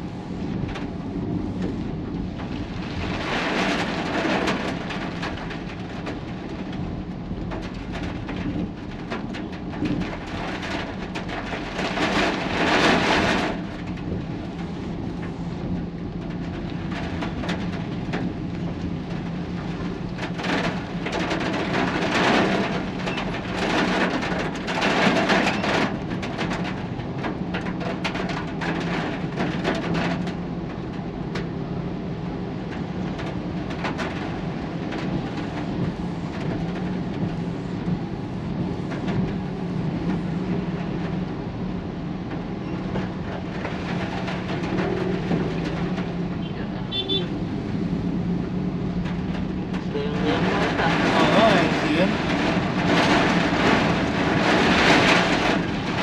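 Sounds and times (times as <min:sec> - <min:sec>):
rain: 0:00.0 - 0:56.0
road traffic: 0:00.0 - 0:56.0
wind: 0:00.0 - 0:56.0.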